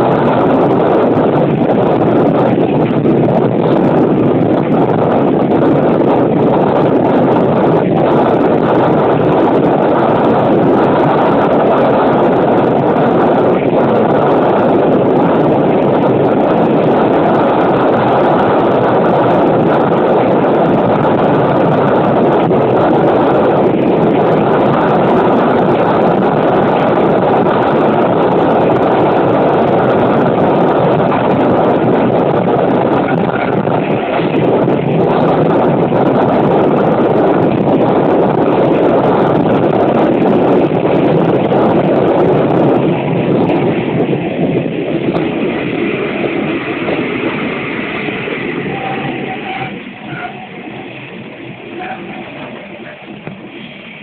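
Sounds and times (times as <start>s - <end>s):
railcar running noise: 0.0s - 54.0s
wind buffeting microphone: 0.0s - 54.0s.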